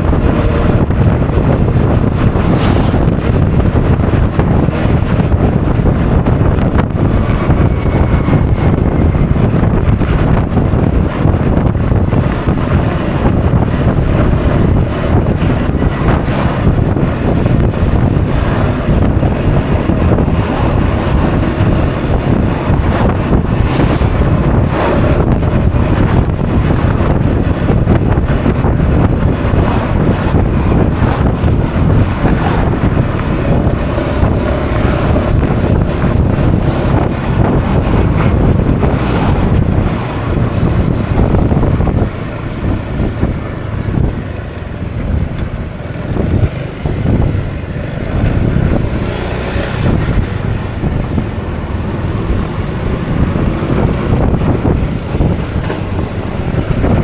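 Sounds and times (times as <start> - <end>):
road noise: 0.0 - 57.0
scooter engine: 0.0 - 57.0
wind buffeting microphone: 0.0 - 57.0.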